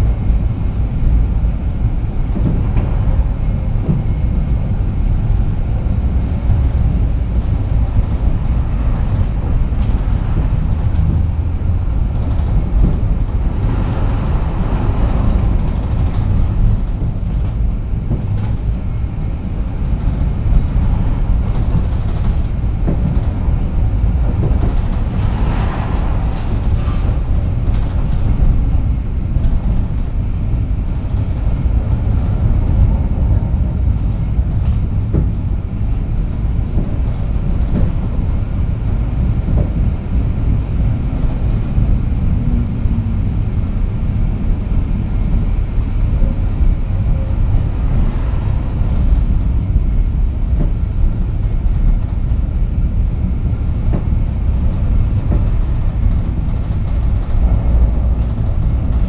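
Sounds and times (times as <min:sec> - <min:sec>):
tram rumbling: 0:00.0 - 0:59.0.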